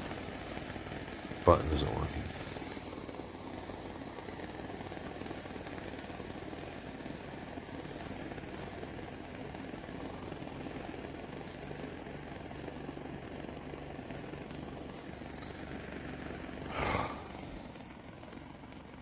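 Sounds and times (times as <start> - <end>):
torch flame hissing: 0.0 - 19.0.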